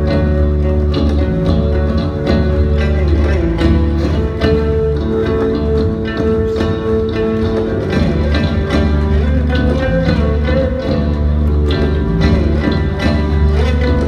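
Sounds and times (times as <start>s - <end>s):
bass guitar: 0.0s - 14.0s
guitar: 0.0s - 14.0s
steady drum beat: 0.0s - 14.0s.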